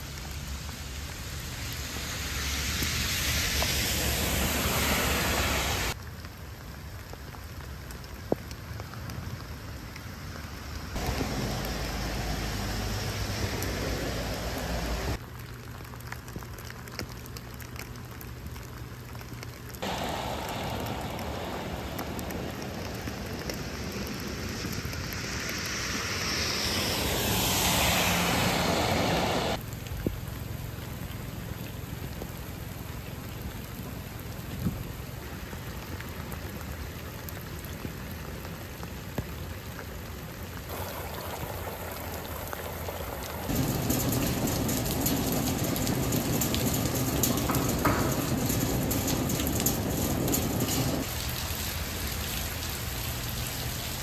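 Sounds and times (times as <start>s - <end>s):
rain falling on wet pavement: 0.0s - 54.0s.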